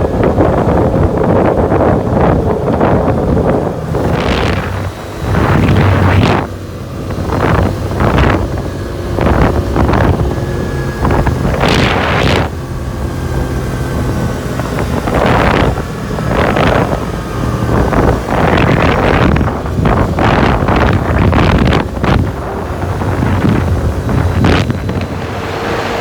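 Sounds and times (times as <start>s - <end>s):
four-wheeler engine running: 0.0s - 26.0s
wind buffeting the microphone: 0.0s - 26.0s.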